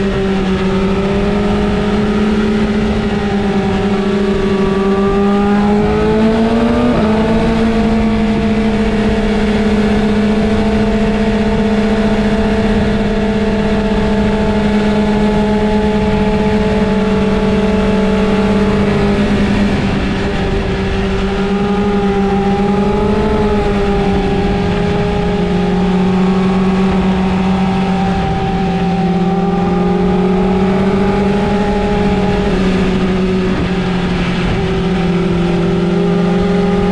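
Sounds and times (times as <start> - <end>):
motorcycle engine at high revs: 0.0 - 36.9.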